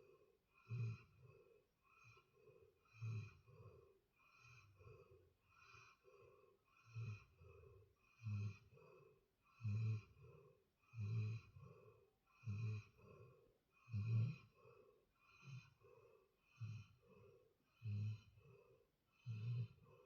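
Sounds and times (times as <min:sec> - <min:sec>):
soft breathing: 0:00.0 - 0:20.0.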